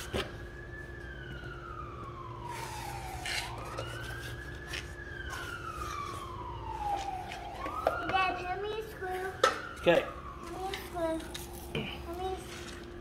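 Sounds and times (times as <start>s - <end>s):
wailing siren: 0.0s - 13.0s.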